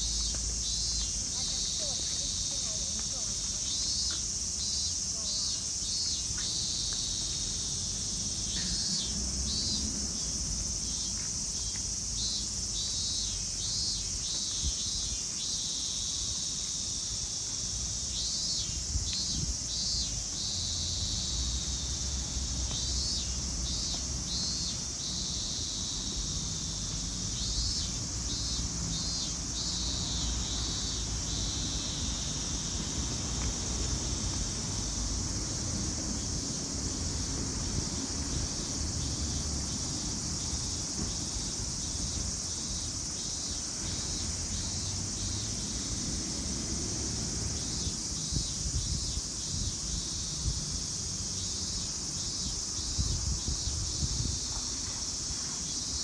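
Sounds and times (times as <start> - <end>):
insects droning: 0.0 - 56.0
rapid insect chirps: 0.0 - 56.0.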